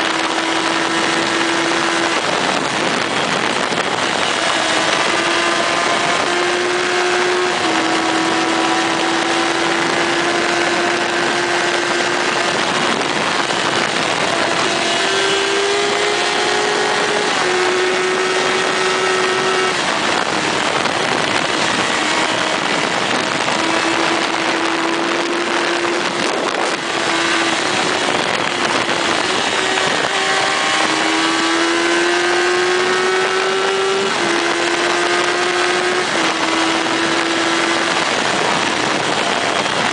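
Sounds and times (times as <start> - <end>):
heavy wind noise: 0.0 - 39.9
motorcycle engine: 0.0 - 39.9.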